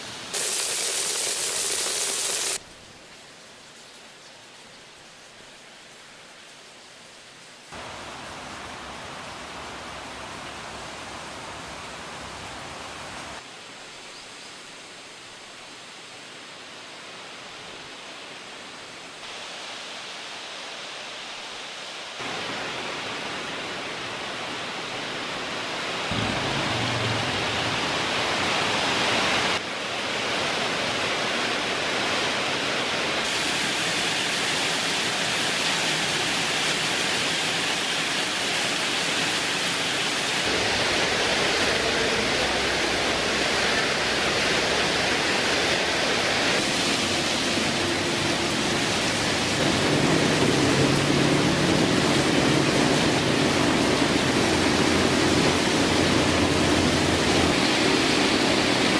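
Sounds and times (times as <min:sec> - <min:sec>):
rain: 0:00.0 - 0:58.9.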